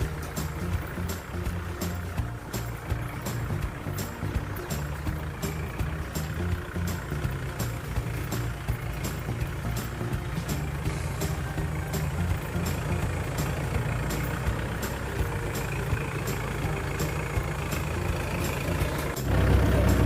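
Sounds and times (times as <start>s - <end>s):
light regular ticking: 0.0s - 20.0s
vehicle engine droning: 0.0s - 20.0s.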